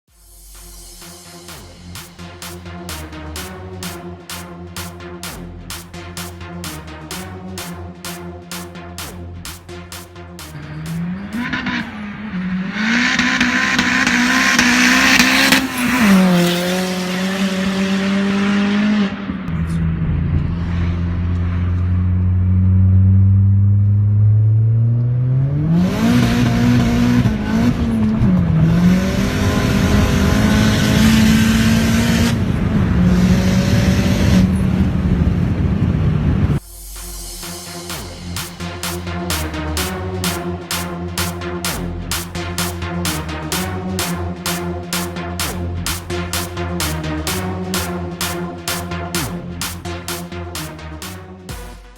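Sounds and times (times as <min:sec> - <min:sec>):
turbocharged car engine revving: 0:00.2 - 0:51.9.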